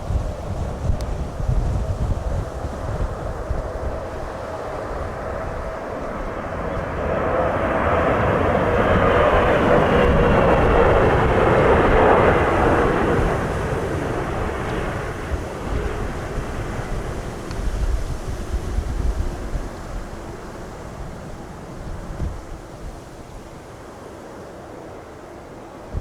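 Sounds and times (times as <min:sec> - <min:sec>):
wind buffeting microphone: 0:00.0 - 0:23.8
jet airliner engine whine: 0:00.0 - 0:26.0.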